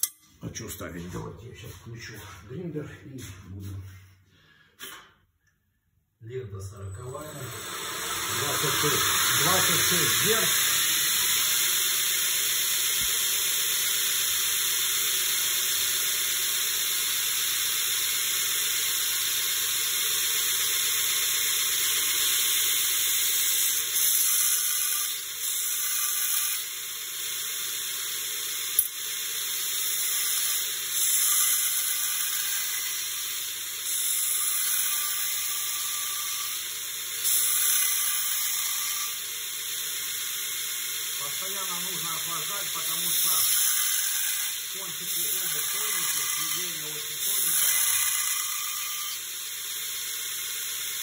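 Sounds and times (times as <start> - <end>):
belt grinder grinding steel: 6.9 - 51.0.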